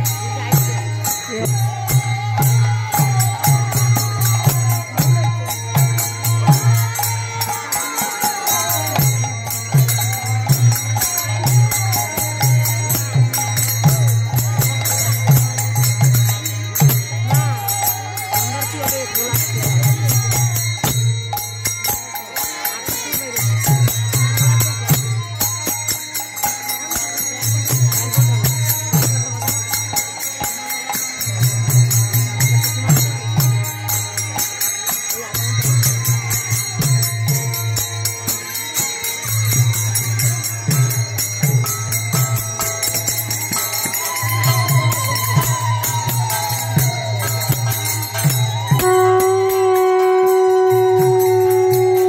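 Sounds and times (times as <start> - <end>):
hand cymbals clashing: 0.0 - 52.0
voices singing: 0.0 - 52.0.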